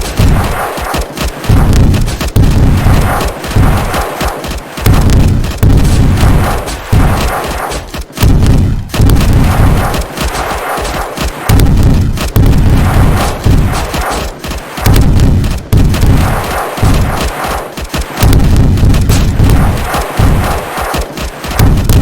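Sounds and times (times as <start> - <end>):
heavy explosions: 0.0 - 22.0
rifle shots: 0.0 - 22.0.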